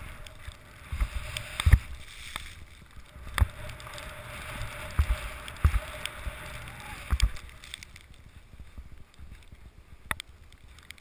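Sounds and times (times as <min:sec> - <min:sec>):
skis swishing through snow: 0:00.0 - 0:10.8.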